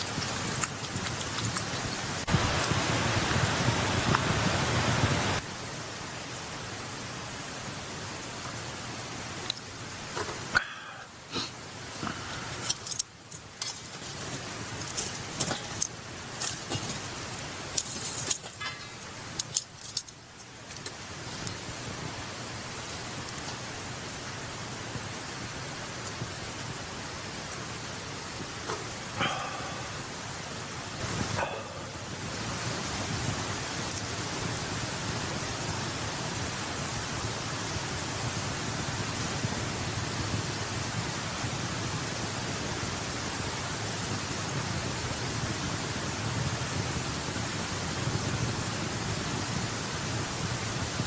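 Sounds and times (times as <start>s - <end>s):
campfire crackling: 0.0s - 51.0s
steady hiss: 0.0s - 51.0s.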